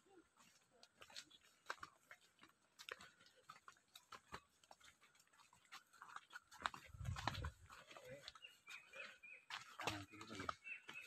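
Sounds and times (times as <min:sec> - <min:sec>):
footsteps on dirt and stone: 0:00.0 - 0:11.0.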